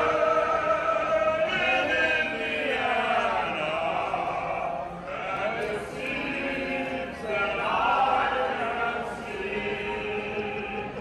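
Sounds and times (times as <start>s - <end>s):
crowd noise: 0.0s - 11.0s
singing over public-address system: 0.0s - 11.0s.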